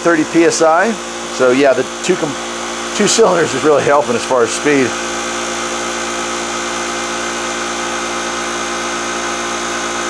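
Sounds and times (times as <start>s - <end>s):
air compressor running: 0.0s - 10.0s.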